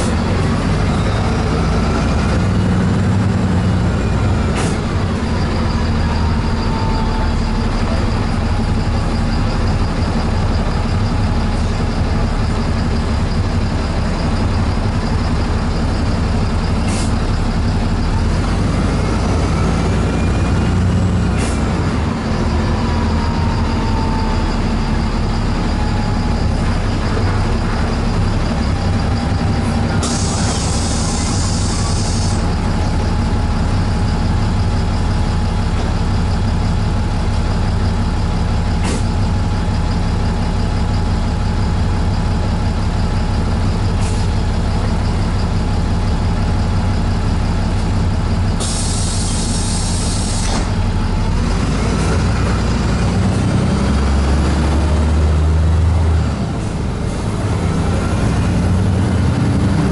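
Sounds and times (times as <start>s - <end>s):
bus drivetrain hum and road noise: 0.0s - 59.9s
bus motor whine: 0.0s - 59.9s.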